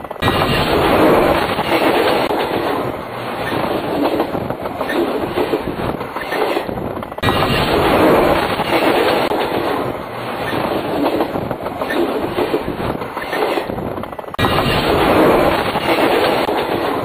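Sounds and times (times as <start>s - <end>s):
train wheels rumbling overhead: 0.0s - 17.0s.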